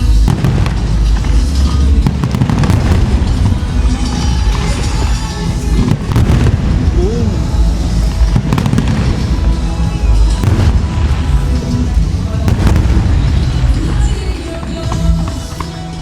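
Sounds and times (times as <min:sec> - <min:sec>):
fireworks booming and crackling: 0:00.0 - 0:16.0
loud music: 0:00.0 - 0:16.0.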